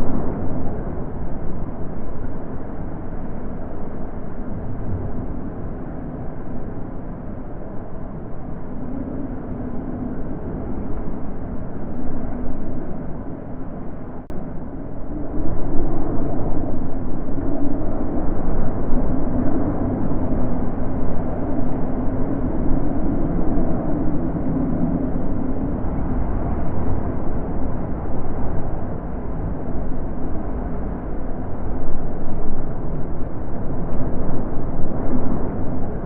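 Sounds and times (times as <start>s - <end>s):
wind blowing in gusts: 0.0s - 36.0s.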